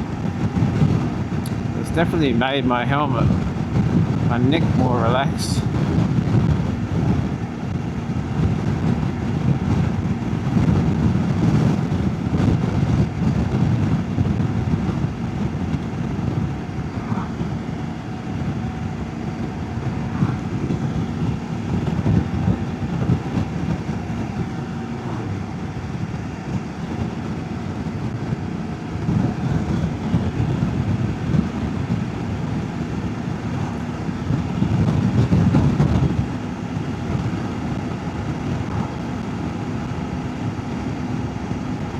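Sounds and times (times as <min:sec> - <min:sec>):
road noise: 0:00.0 - 0:41.9
wind buffeting microphone: 0:00.0 - 0:41.9.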